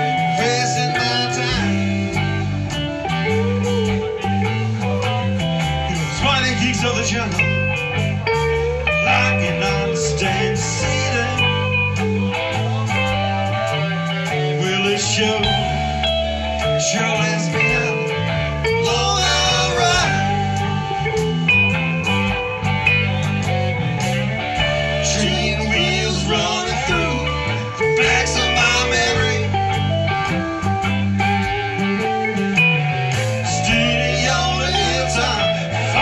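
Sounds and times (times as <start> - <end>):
acoustic-electric guitar: 0.0 - 36.0
drums: 0.0 - 36.0
electric bass: 0.0 - 36.0
electric guitar bending notes: 0.0 - 36.0.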